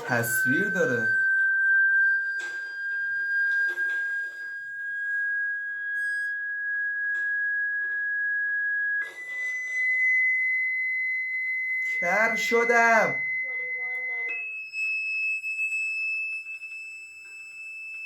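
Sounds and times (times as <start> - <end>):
high-pitched electronic test tone: 0.0 - 18.0.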